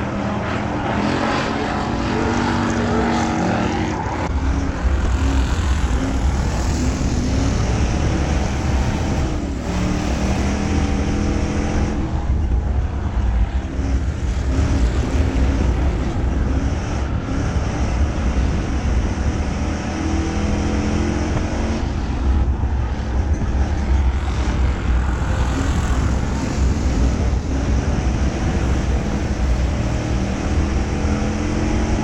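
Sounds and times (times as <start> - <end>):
race car engines revving past: 0.0 - 32.0.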